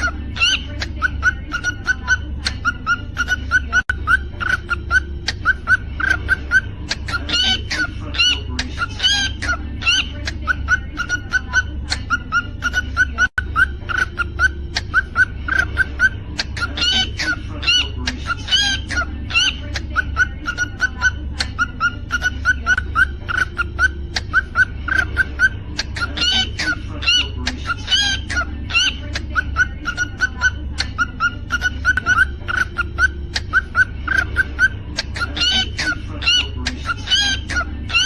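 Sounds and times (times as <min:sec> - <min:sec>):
cockatiel chirping and whistling: 0:00.0 - 0:38.0
low steady hum: 0:00.0 - 0:38.0.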